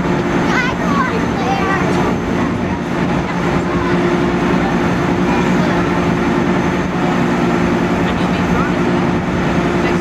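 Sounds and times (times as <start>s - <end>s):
ship engines droning: 0.0s - 10.0s.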